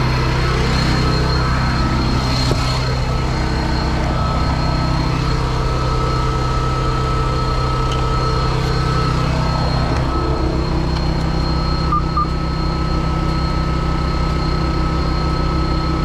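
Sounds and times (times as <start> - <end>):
thin high whine: 0.0 - 16.0
truck engine idling: 0.0 - 16.0.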